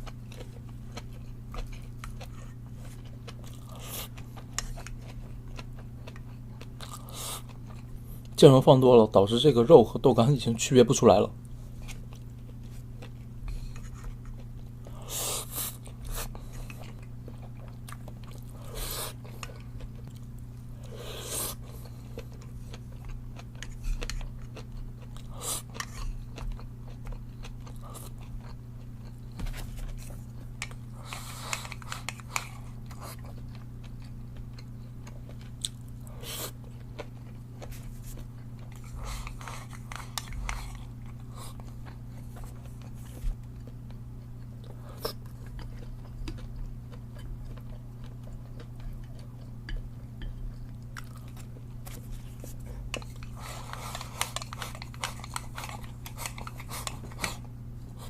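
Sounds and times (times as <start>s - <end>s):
chewing and crunching food: 0.0s - 58.0s
steady low hum: 0.0s - 58.0s.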